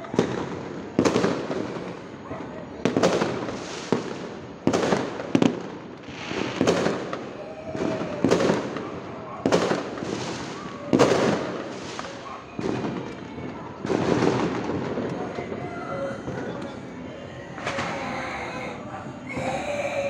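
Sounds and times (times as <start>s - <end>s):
fireworks bangs with echo: 0.0s - 18.2s.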